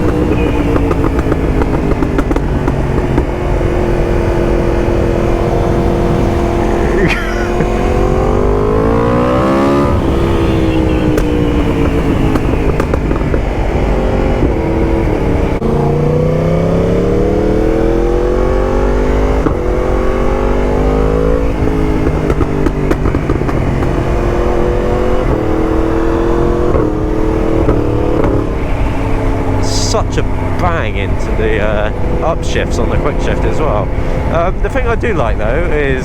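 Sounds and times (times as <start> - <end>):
exhaust bangs on upshift: 0.0 - 36.0
exhaust pops: 0.0 - 36.0
motorcycle engine accelerating: 0.0 - 36.0.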